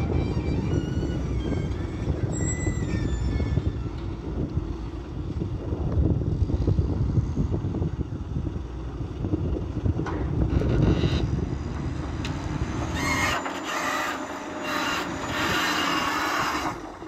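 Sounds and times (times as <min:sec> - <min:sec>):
wheel loader diesel engine rumble: 0:00.0 - 0:17.0.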